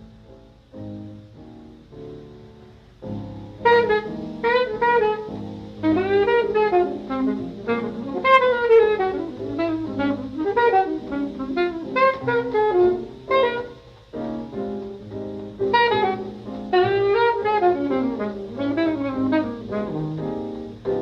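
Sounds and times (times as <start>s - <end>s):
jazz saxophone playing fast runs: 3.2s - 21.0s.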